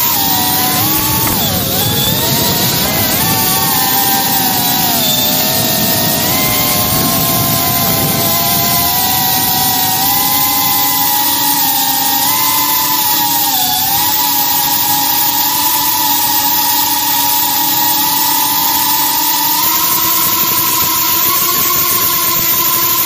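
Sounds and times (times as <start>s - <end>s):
drone motors high whine: 0.0s - 23.0s.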